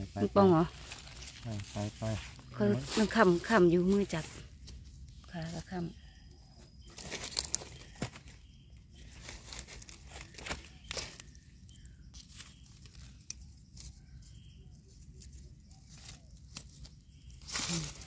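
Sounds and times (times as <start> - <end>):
leaves rustling underfoot: 0.0 - 5.8, 6.8 - 18.0.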